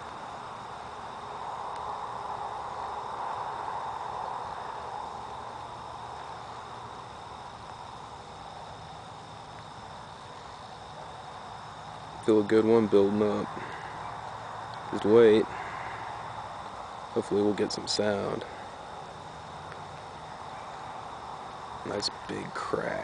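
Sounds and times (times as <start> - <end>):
insects chirring: 0.0 - 23.0
soft hiss: 0.0 - 23.0.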